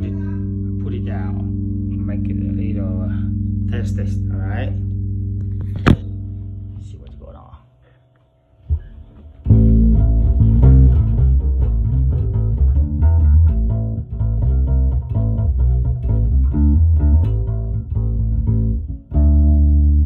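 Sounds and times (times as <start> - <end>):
electric bass guitar notes: 0.0 - 7.8, 8.6 - 20.0.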